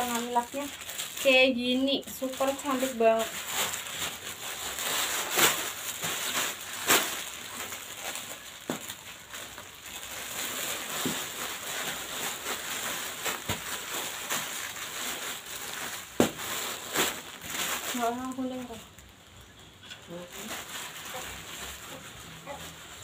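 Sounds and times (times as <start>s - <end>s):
garments rustling: 0.0s - 19.0s, 20.1s - 23.0s.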